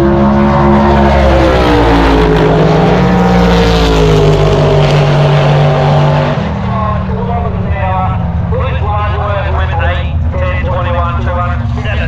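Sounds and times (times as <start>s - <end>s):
drag racing car engine: 0.0s - 12.0s.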